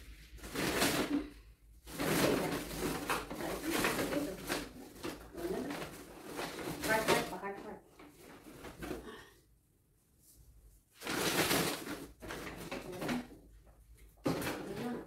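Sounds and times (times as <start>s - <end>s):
plastic bags rustling: 0.0s - 9.2s, 10.9s - 15.0s.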